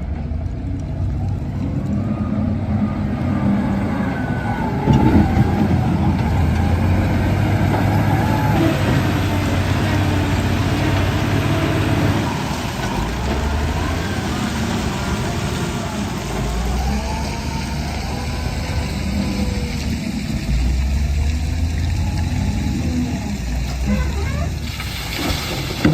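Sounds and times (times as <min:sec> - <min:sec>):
excavator diesel engine running: 0:00.0 - 0:24.8.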